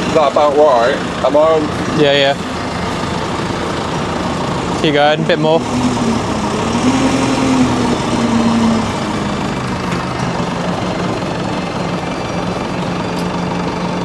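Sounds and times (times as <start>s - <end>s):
lifting machine engine running: 0.0s - 14.0s.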